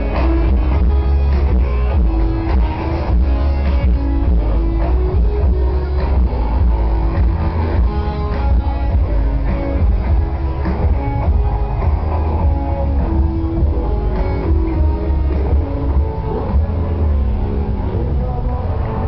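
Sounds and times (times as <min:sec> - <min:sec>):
electric guitar: 0:00.0 - 0:19.0
heavy steady bass: 0:00.0 - 0:19.0.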